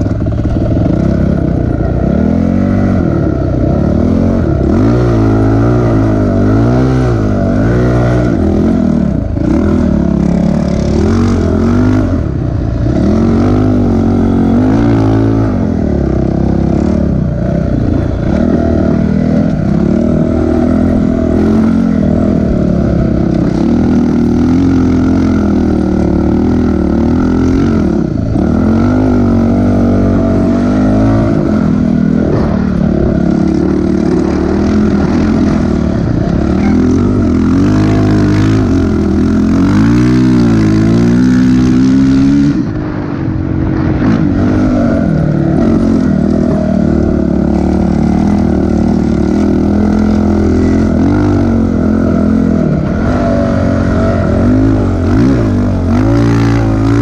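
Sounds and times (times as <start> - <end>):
dirt bike engine running hard: 0.0 - 57.0.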